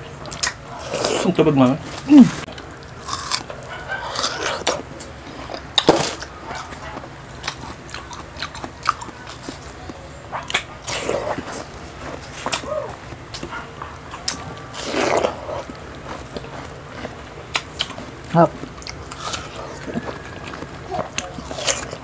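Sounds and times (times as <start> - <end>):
chewing and biting food: 0.2 - 22.0.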